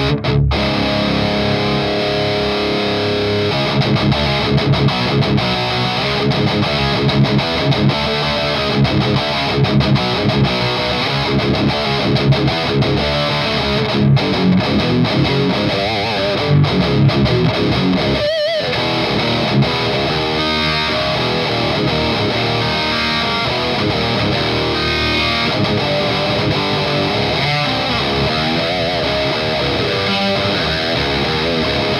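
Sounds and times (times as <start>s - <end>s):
distorted electric guitar riffs: 0.0s - 31.9s.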